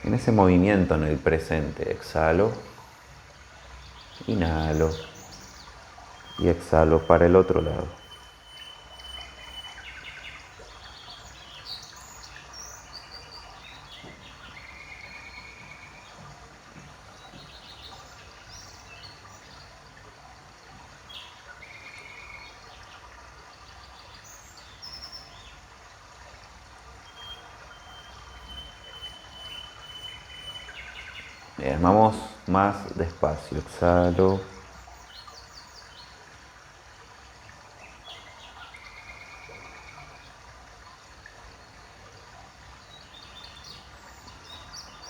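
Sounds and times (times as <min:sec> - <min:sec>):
birds chirping and trilling: 0:00.0 - 0:25.8, 0:26.5 - 0:36.4, 0:37.7 - 0:40.6, 0:41.4 - 0:45.0.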